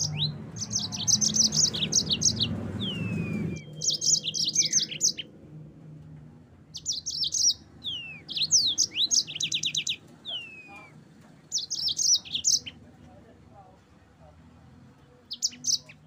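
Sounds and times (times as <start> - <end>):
canary singing chirps and trills: 0.0 - 6.0, 6.6 - 13.1, 14.6 - 16.0.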